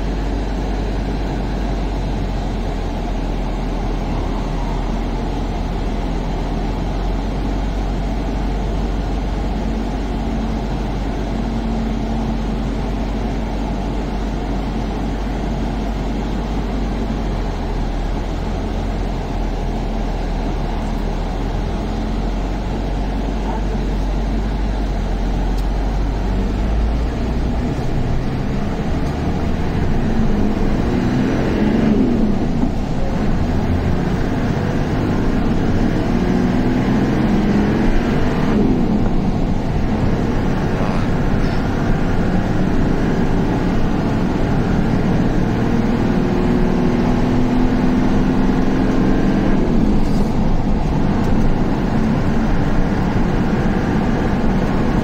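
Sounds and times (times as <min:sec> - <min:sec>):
deep engine drone: 0:00.0 - 0:55.0
heavy vehicle engine rumble: 0:00.0 - 0:55.0.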